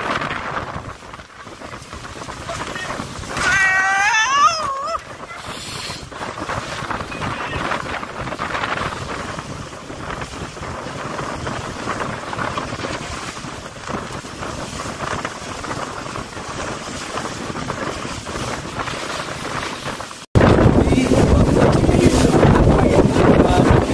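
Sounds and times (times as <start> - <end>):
choppy water splashing on hull: 0.0 - 23.9
wind noise on microphone: 0.0 - 23.9.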